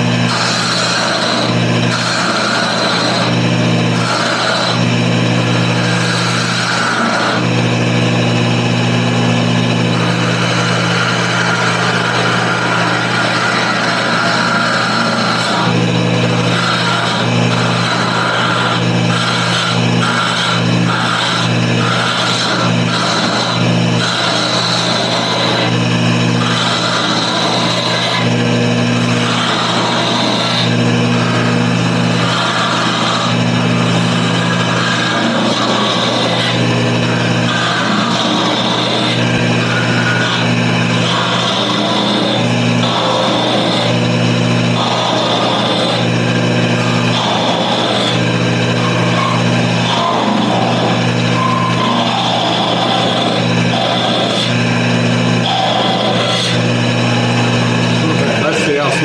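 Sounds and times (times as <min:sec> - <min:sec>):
tool hissing on spinning wood: 0:00.0 - 0:07.5, 0:09.8 - 0:58.8
lathe motor hum: 0:00.0 - 0:59.0.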